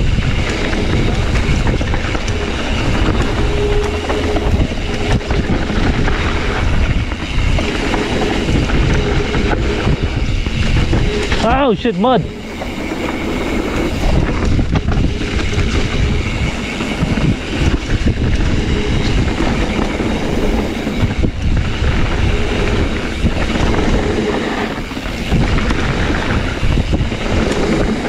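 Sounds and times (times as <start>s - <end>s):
bike knocking and rattling: 0.0s - 28.0s
bike tyres rumbling on dirt: 0.0s - 28.0s
wind on microphone: 0.0s - 28.0s.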